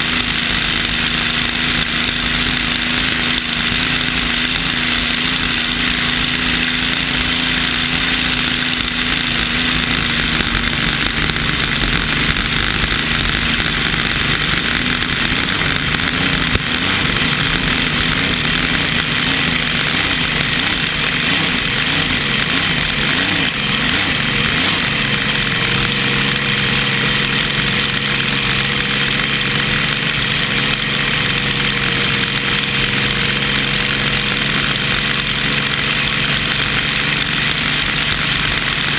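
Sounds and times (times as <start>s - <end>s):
boat engine running hard: 0.0s - 38.9s.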